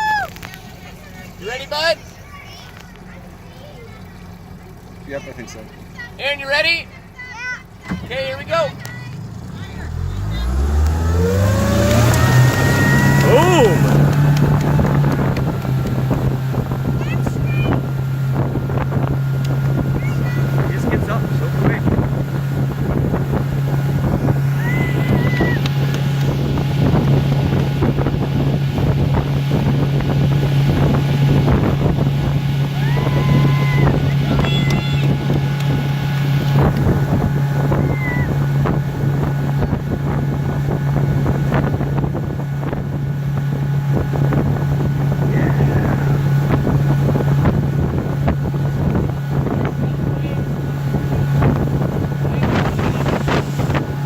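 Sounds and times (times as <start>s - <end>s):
motorboat engine drone: 0.0s - 54.0s
wind buffeting microphone: 7.9s - 54.0s.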